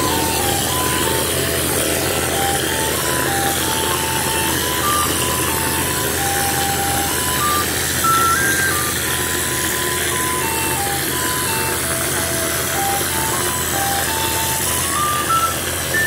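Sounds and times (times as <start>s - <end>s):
plaster spraying machine rushing: 0.0s - 16.0s.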